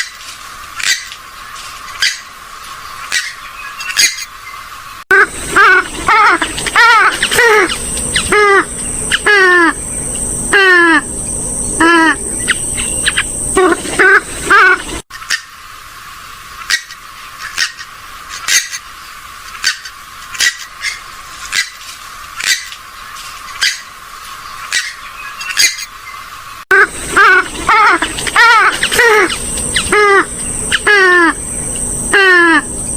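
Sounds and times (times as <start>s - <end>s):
swamphen and moorhen calls: 0.8s - 21.8s, 22.4s - 32.9s.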